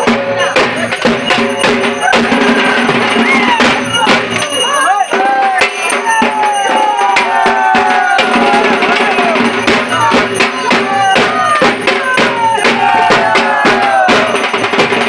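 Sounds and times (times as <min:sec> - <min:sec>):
sliding melody line: 0:00.0 - 0:13.6
drums beaten in fast rhythm: 0:00.0 - 0:15.0.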